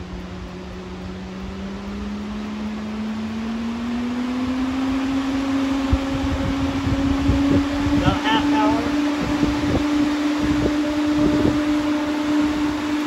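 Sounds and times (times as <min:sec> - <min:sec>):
cooling fan hum rising: 0:00.0 - 0:13.0.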